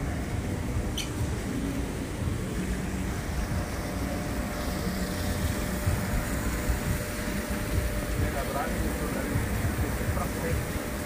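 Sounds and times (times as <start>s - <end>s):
faint steady hum: 0.0s - 11.0s
ship running noise: 0.0s - 11.0s.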